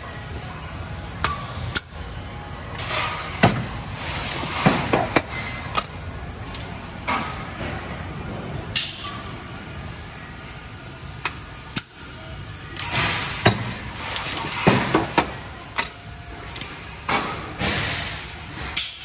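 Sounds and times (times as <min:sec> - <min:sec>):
machine hum: 0:00.0 - 0:18.8.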